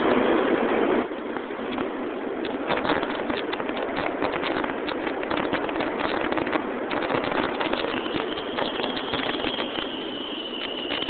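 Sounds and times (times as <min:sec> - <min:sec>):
train rushing: 0:00.0 - 0:11.0
wheels clicking on track: 0:00.0 - 0:11.0.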